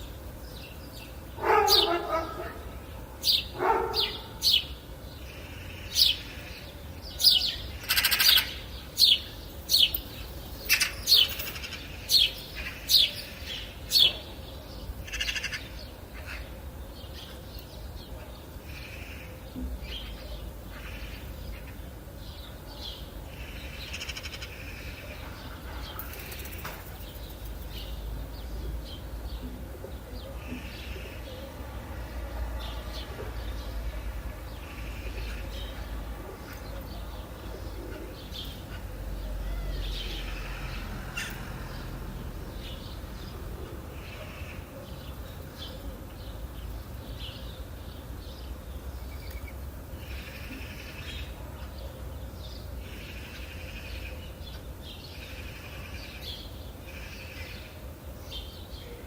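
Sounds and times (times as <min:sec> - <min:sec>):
wild birds calling: 0:00.0 - 0:59.0.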